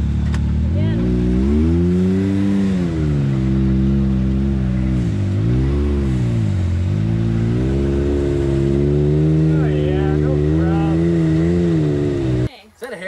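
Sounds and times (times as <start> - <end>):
engine revving up and down: 0.0 - 12.5.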